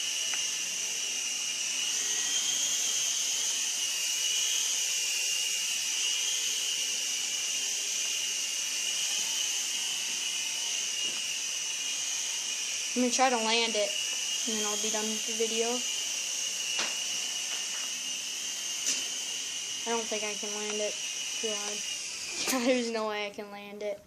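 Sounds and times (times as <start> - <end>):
toy helicopter rotors whining: 0.0 - 24.0.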